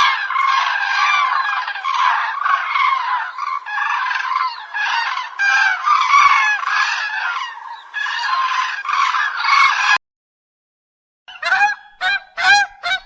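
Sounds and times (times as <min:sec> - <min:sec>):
flock of birds calling: 0:00.0 - 0:10.0, 0:11.3 - 0:13.0.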